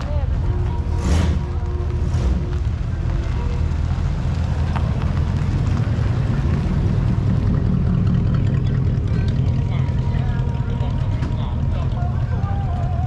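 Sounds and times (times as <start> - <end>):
car engine rumbling past: 0.0 - 13.0.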